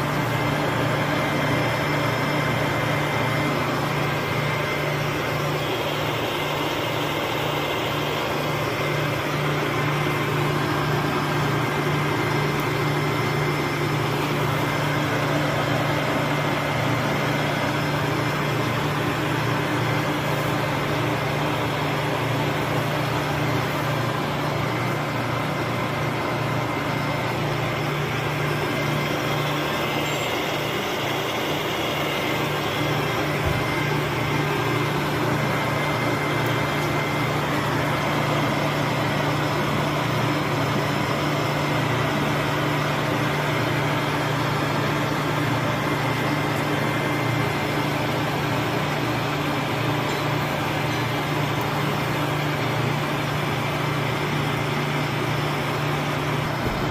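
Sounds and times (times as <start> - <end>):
lathe running idle: 0.0 - 56.9.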